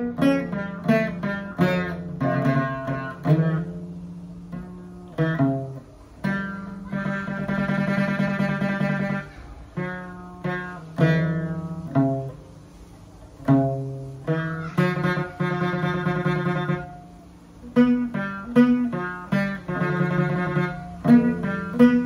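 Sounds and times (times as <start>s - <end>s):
plucked two-string lute: 0.0s - 22.0s.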